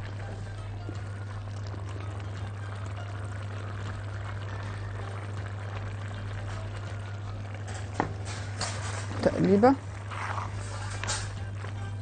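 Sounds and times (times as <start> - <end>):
sauce simmering with bubbling pops: 0.0 - 12.0.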